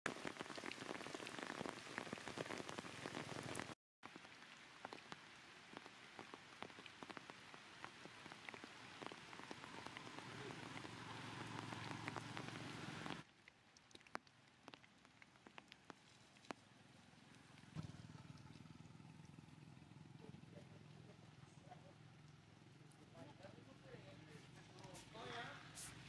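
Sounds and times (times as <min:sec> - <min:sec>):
rain drops pattering: 0:00.1 - 0:26.0.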